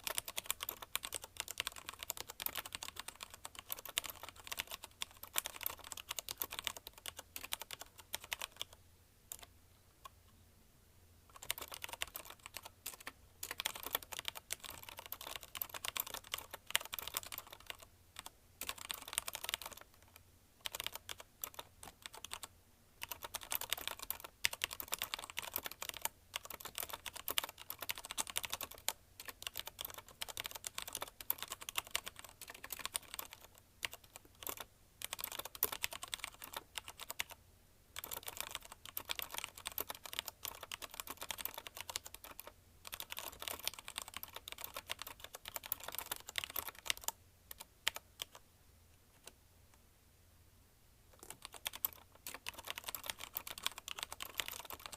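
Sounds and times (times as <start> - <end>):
fast typing on mechanical keyboard: 0.0 - 9.5, 11.3 - 37.4, 38.0 - 48.4, 51.2 - 54.9.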